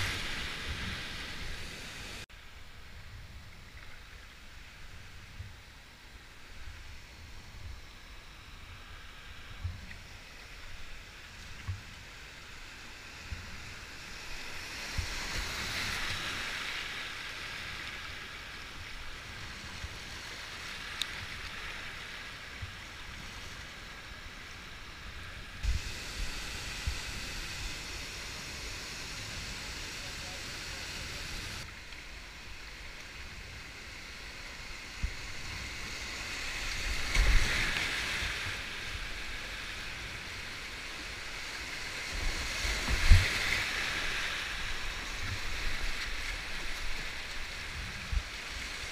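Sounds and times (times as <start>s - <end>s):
river water rushing and splashing: 0.0s - 48.9s.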